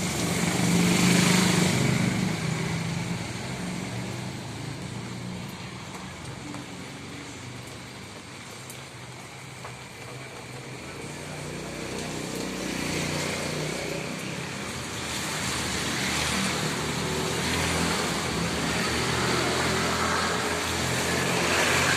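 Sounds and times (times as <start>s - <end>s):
rain hiss on wet road: 0.0s - 21.9s
vehicle engine approaching: 0.0s - 21.9s.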